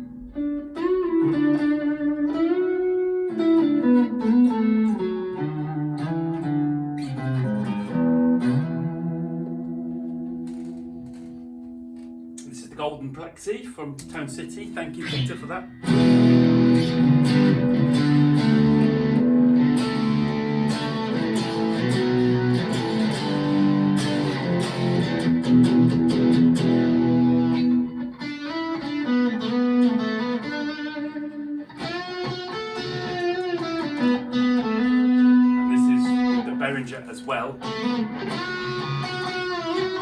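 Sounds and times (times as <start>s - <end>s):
distorted electric guitar: 0.0s - 12.5s, 13.9s - 40.0s.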